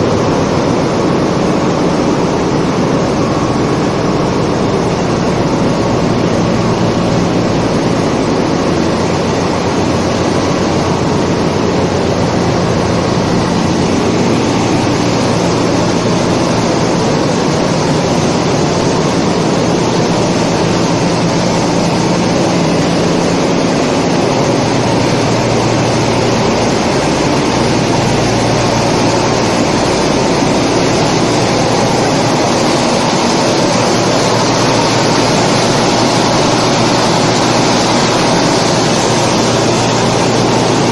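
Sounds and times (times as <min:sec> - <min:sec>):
engine room machinery drone: 0:00.0 - 0:40.9
low hums: 0:00.0 - 0:40.9.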